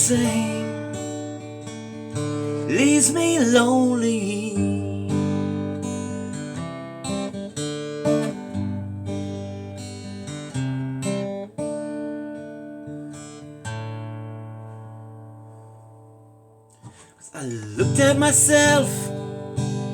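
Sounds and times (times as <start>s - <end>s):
acoustic guitar strumming chords: 0.0s - 19.9s.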